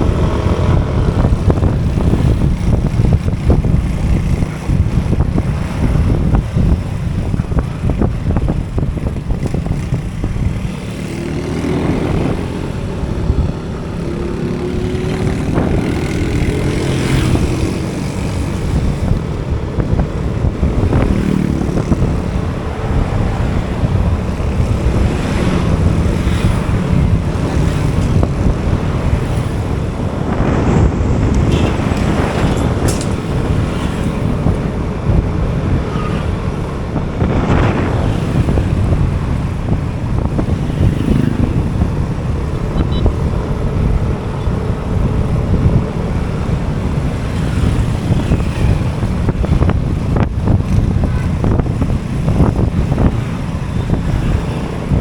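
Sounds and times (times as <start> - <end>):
passing traffic: 0.0 - 55.0
wind buffeting microphone: 0.0 - 55.0.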